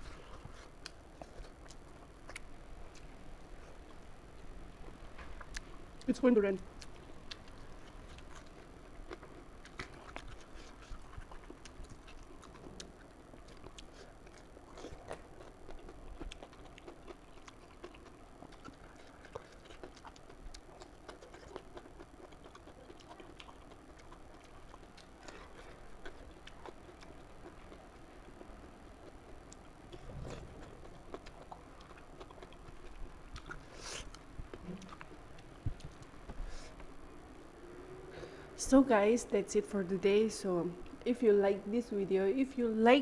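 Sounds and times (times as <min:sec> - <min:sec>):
soft chewing: 0:00.0 - 0:38.6.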